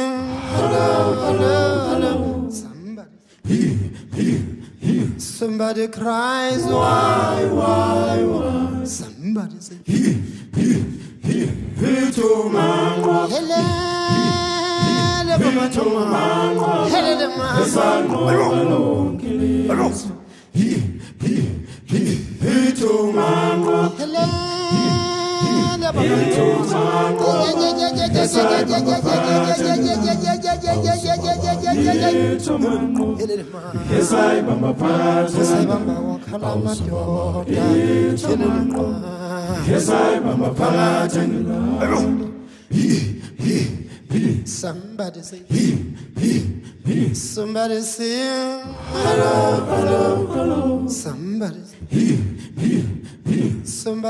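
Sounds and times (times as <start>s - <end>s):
group singing in harmony: 0.0s - 9.2s, 9.8s - 44.8s, 45.5s - 54.0s.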